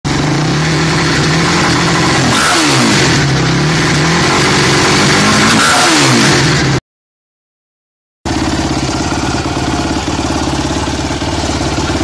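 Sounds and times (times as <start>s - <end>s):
atv engine running: 0.1s - 6.8s, 8.3s - 12.0s.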